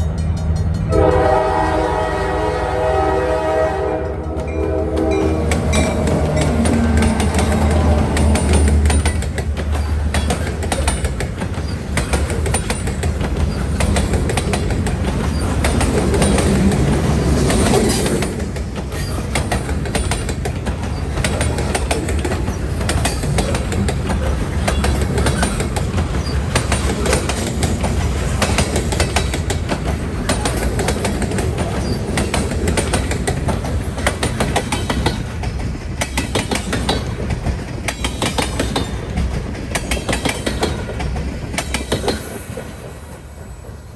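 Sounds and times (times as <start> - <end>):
freight train cars rolling: 0.0 - 43.9
wheels clicking over rail joints: 3.9 - 43.0.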